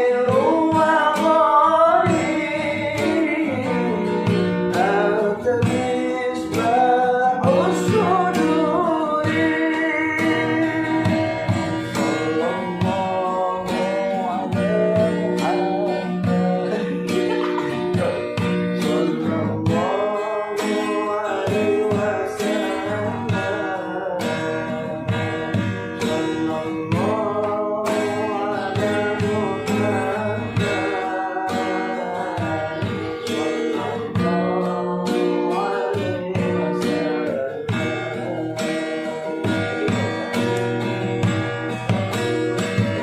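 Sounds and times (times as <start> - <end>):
acoustic guitar: 0.0 - 43.0
person singing: 0.0 - 43.0.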